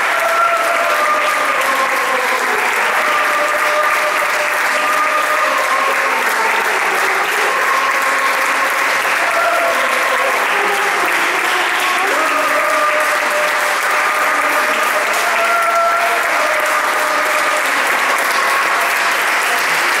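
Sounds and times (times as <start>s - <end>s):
audience applauding: 0.0s - 20.0s
voices over clapping: 0.0s - 20.0s.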